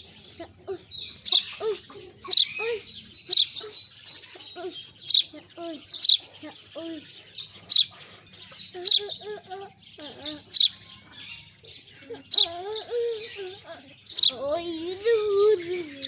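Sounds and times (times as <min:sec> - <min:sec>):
soft low bird calls: 0:00.0 - 0:16.0
sparrows chirping: 0:00.0 - 0:16.0.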